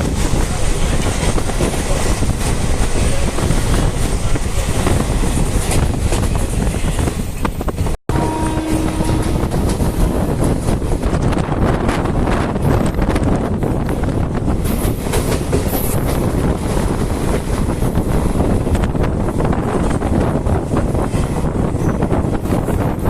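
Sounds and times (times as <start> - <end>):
passenger train rumbling and rattling: 0.0 - 23.0.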